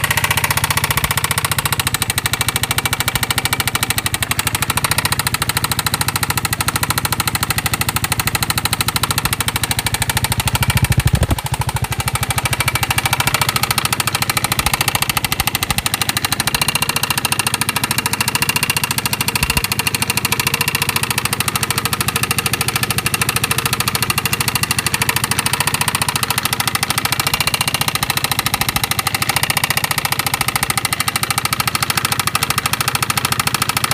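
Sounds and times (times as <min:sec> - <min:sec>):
scooter engine idling with knocking: 0:00.0 - 0:33.9.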